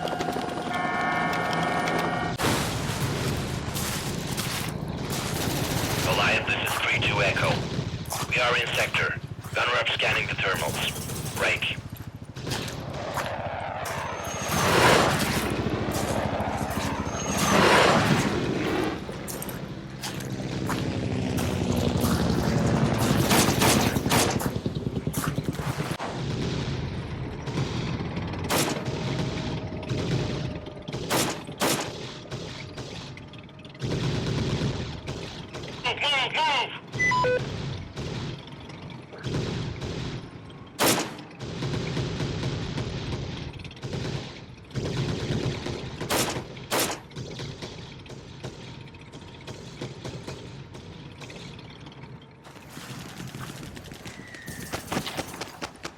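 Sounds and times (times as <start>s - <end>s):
steady engine drone: 0.0s - 54.5s
gunfire bursts: 2.4s - 51.6s.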